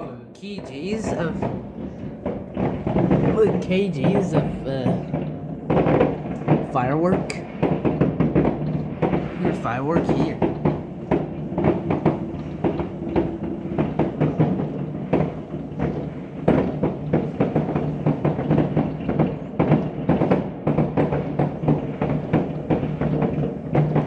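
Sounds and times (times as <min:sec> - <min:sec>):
fireworks bangs and cracks: 0:00.4 - 0:24.0.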